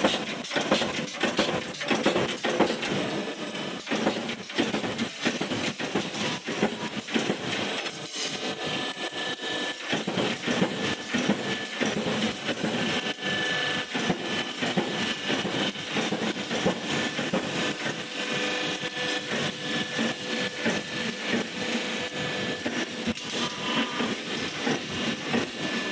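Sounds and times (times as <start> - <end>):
roll forming machine clattering: 0.0 - 8.4, 9.7 - 25.9
sharp mechanical clicks and knocks: 0.0 - 8.4, 9.7 - 21.9, 22.6 - 25.9.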